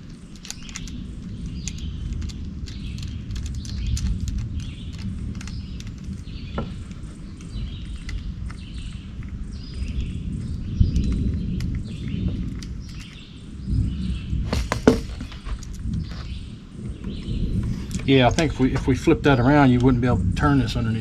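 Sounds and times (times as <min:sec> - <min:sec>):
birds chirping: 0:00.0 - 0:21.0
low rumbling noise: 0:00.0 - 0:21.0.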